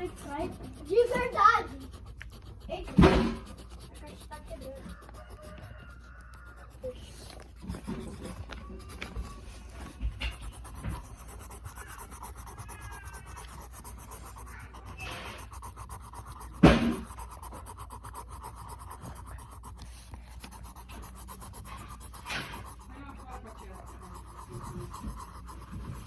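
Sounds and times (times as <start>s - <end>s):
pencil scratching on paper: 0.0s - 26.0s.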